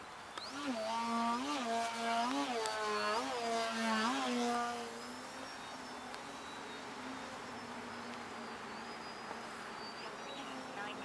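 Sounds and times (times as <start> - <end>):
model plane motor and propeller: 0.0 - 11.0.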